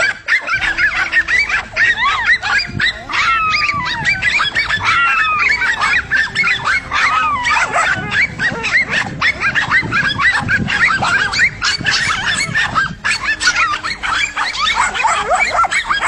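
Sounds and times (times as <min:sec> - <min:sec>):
dogs whining: 0:00.0 - 0:16.0
dogs yelping and barking: 0:00.0 - 0:16.0.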